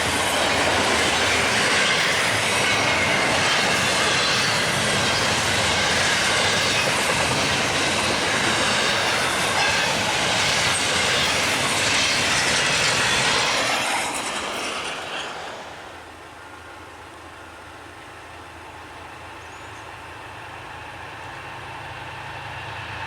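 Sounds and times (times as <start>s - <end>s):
steel wheels squealing on rail: 0.0s - 16.9s, 19.1s - 23.0s
freight train cars passing: 0.0s - 23.0s.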